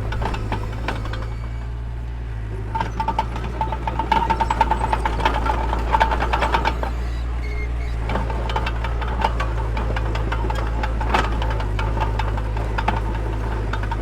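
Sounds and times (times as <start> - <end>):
rapid metallic clatter: 0.0 - 1.8, 2.6 - 14.0
bulldozer diesel engine running: 0.0 - 14.0.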